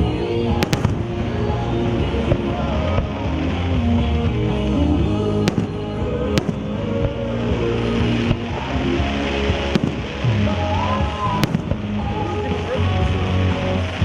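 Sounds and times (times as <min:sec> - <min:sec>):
fireworks exploding: 0:00.0 - 0:14.0
loud recorded music: 0:00.0 - 0:14.0.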